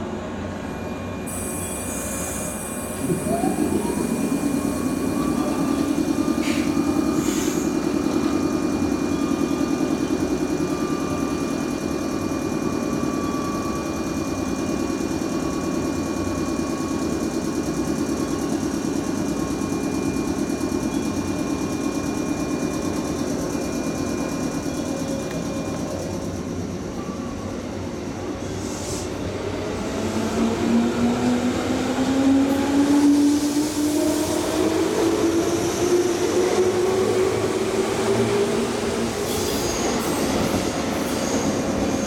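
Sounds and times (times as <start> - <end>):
train equipment hum and whine: 0.0 - 42.0.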